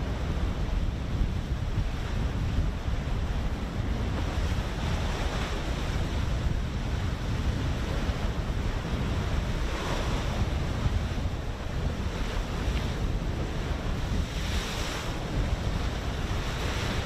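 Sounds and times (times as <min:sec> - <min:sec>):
waves washing: 0:00.0 - 0:17.0
wind buffeting microphone: 0:00.0 - 0:17.0.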